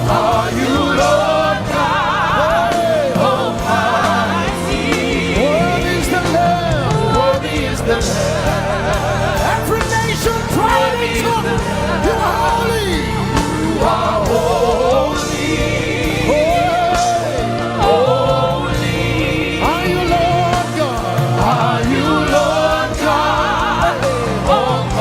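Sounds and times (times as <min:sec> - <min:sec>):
band with low bass: 0:00.0 - 0:25.0
singers with vibrato: 0:00.0 - 0:25.0.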